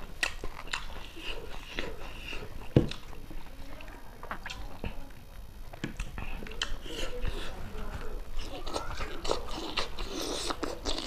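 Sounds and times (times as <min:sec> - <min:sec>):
chewing and mouth clicks: 0:00.0 - 0:11.0.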